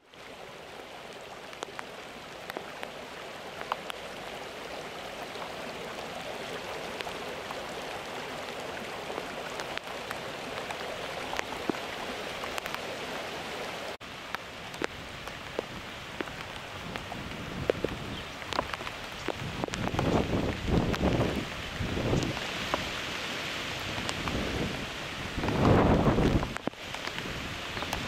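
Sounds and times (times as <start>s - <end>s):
raindrops ticking close by: 0.0s - 28.0s
steady rain falling: 0.0s - 28.0s.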